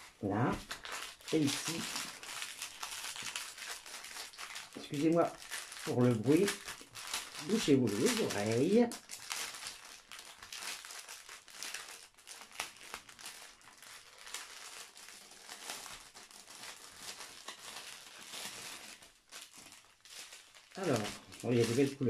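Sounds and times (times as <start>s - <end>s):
plastic crinkling and rustling: 0.0s - 22.0s
small plastic crackles and clicks: 0.6s - 22.0s.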